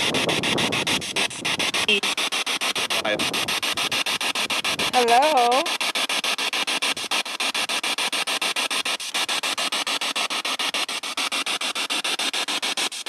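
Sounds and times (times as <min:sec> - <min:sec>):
pulsing radio static: 0:00.0 - 0:11.5.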